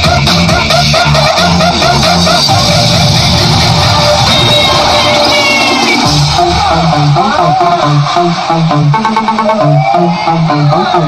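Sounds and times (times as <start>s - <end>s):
upbeat dance music: 0.0s - 11.0s.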